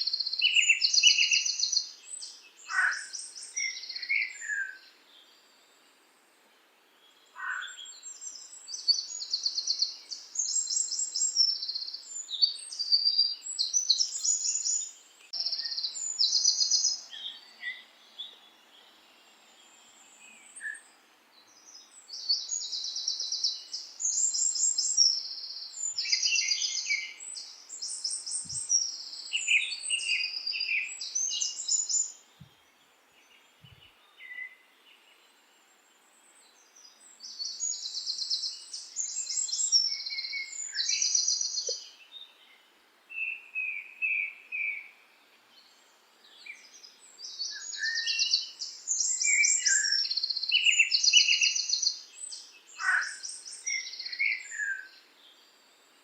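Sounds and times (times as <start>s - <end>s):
songbirds trilling: 0.0s - 5.6s, 7.0s - 42.6s, 43.2s - 55.6s.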